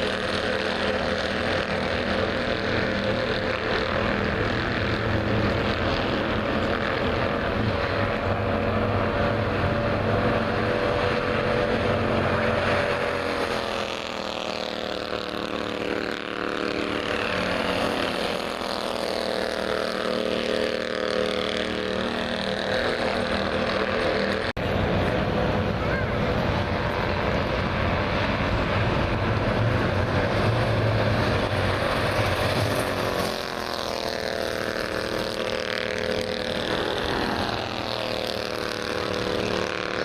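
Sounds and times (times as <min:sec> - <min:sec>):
race car engines passing: 0:00.0 - 0:40.0.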